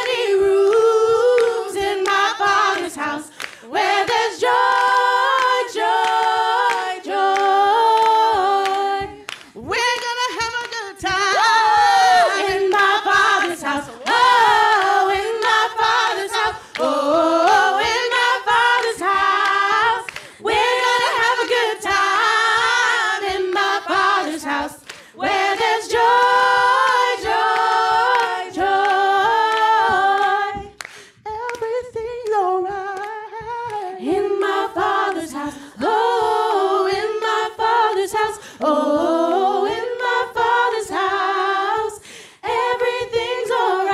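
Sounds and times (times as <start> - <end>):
hands clapping: 0.0 - 43.9
women singing in harmony: 0.0 - 43.9.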